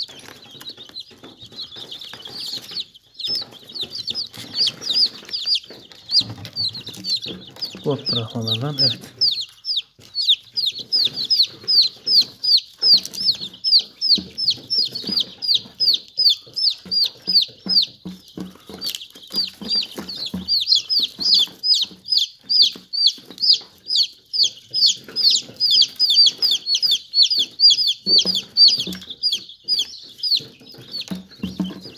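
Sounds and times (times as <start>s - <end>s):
chicks peeping: 0.0s - 31.9s.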